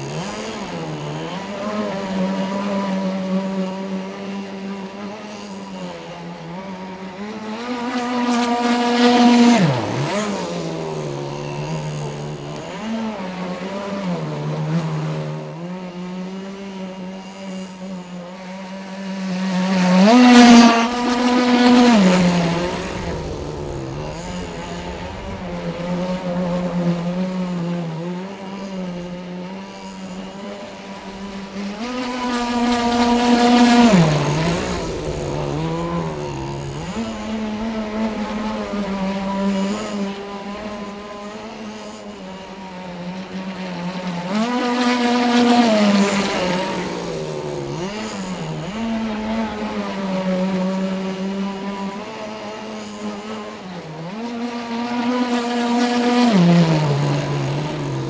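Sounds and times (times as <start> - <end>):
model boat engine high buzz: 0.0 - 58.0.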